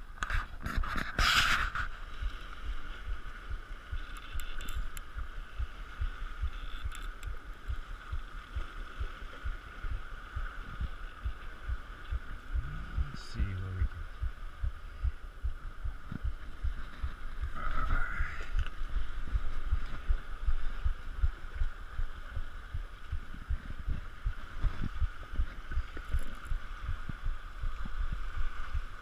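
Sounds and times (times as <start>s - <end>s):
wind buffeting microphone: 0.6s - 29.0s
steady hiss: 1.4s - 29.0s.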